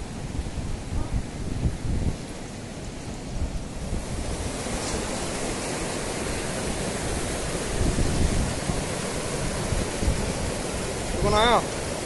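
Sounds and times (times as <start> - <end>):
flowing water: 0.0 - 12.0
wind gusting on microphone: 0.0 - 12.0.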